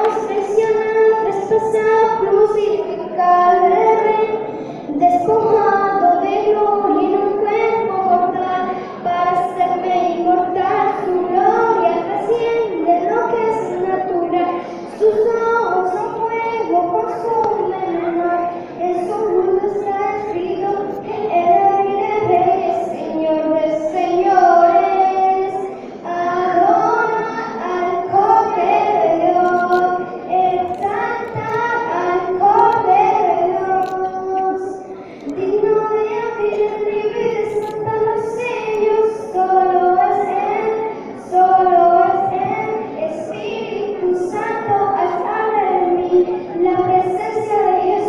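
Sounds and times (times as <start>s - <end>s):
girl singing into a microphone: 0.0s - 48.0s.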